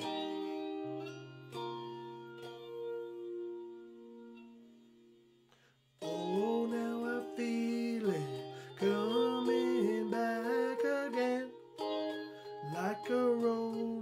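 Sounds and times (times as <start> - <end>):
electric guitar chords: 0.0 - 5.3, 6.0 - 14.0.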